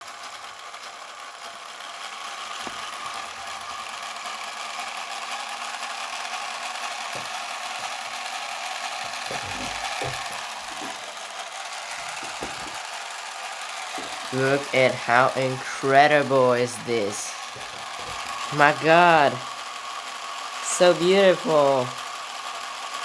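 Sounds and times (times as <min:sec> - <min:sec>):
small electric motor whirring: 0:00.0 - 0:23.0.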